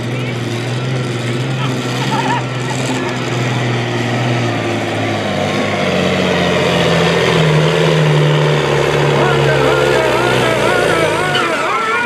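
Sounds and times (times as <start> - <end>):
truck engine at full throttle: 0.0 - 12.0.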